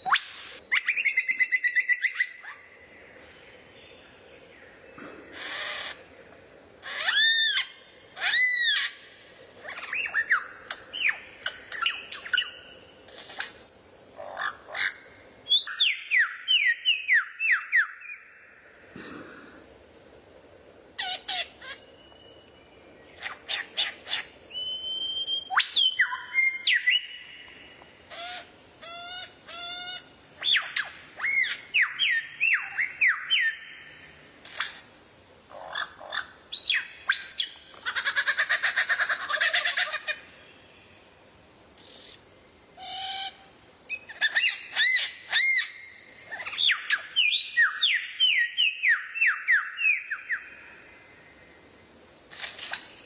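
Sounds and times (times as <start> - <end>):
songbird singing: 0.0 - 19.6, 20.9 - 53.0.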